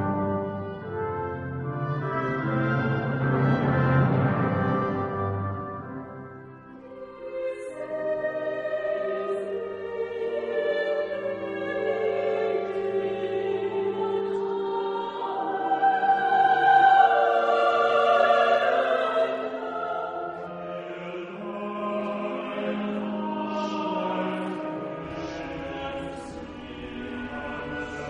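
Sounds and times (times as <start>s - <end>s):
choir singing long held notes: 0.0s - 28.0s.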